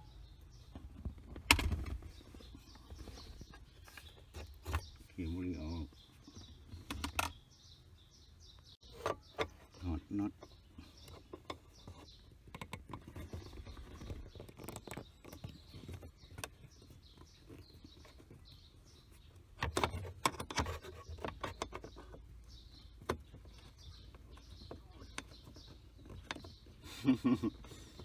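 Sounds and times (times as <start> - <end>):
faint bird chirps: 0.0 - 28.0.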